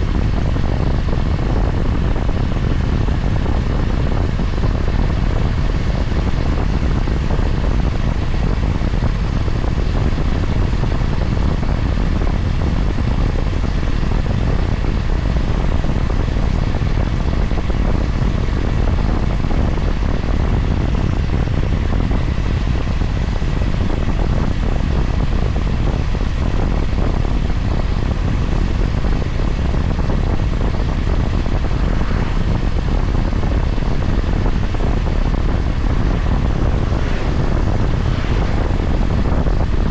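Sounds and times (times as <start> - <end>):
low rumble of riding noise: 0.0 - 39.9.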